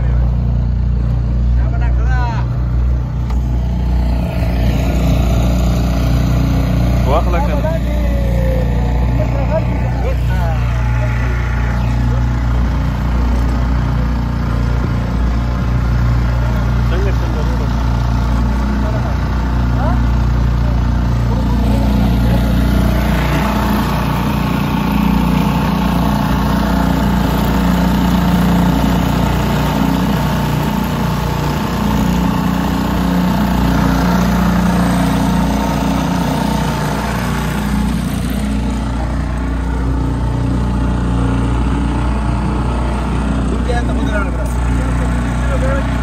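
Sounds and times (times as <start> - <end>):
motorboat engine running: 0.0 - 46.0.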